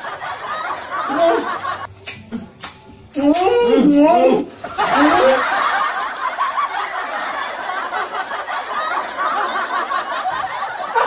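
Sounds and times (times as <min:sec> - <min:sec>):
crowd laughing: 0:00.0 - 0:02.6, 0:04.5 - 0:11.0.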